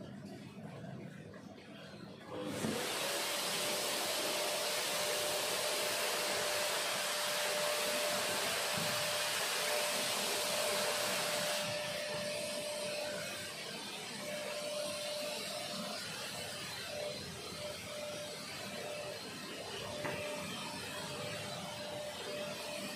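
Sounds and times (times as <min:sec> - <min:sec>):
vacuum cleaner motor whine: 0:01.9 - 0:22.9.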